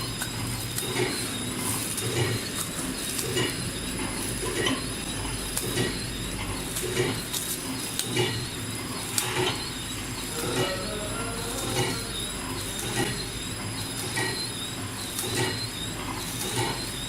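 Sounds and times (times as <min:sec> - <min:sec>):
packing machine metallic clack: 0:00.0 - 0:10.9, 0:11.6 - 0:14.4, 0:15.0 - 0:17.0
machine whine and hum: 0:00.0 - 0:17.0.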